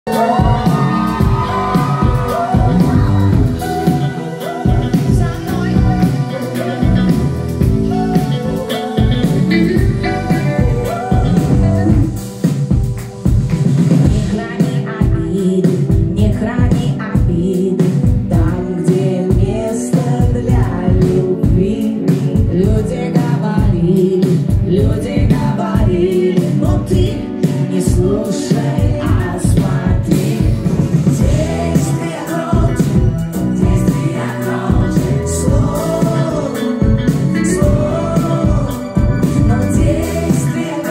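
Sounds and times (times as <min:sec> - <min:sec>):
bass guitar: 0:00.0 - 0:40.9
live pop-rock band: 0:00.0 - 0:40.9
female voice singing: 0:00.1 - 0:12.2, 0:14.1 - 0:40.9
electric guitar: 0:00.1 - 0:40.9
steady drum beat: 0:00.1 - 0:40.9.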